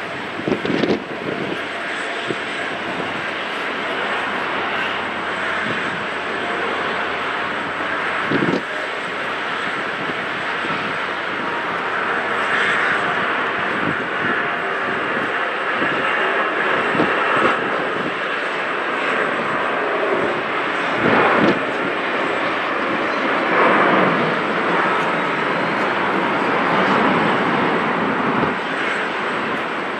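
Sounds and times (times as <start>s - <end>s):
jet engine roar: 0.0s - 29.9s.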